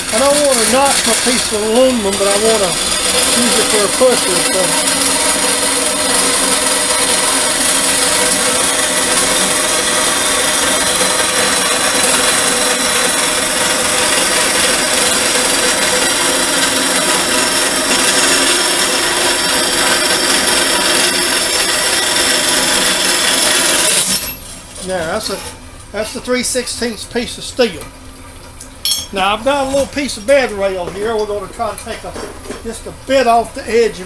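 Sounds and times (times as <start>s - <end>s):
band saw cutting steel: 0.0s - 27.7s.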